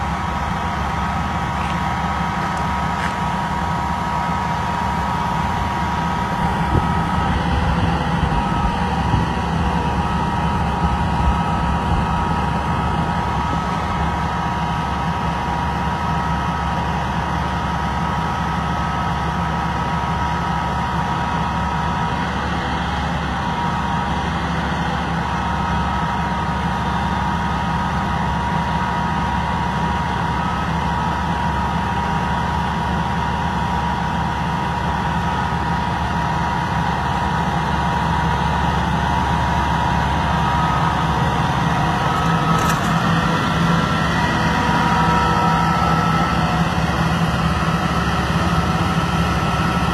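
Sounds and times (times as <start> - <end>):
diesel engine running: 0.0 - 49.9
high hydraulic whine: 0.0 - 49.9.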